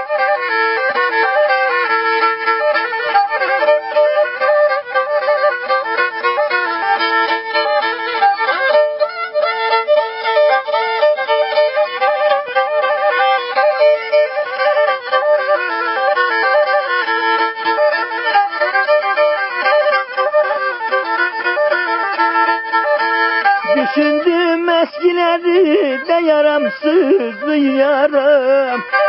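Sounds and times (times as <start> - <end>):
bowed string folk melody: 0.0 - 29.0.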